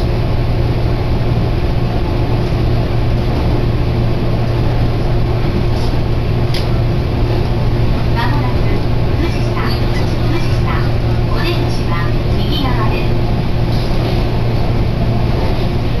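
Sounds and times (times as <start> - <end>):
electric train running inside carriage: 0.0 - 16.0.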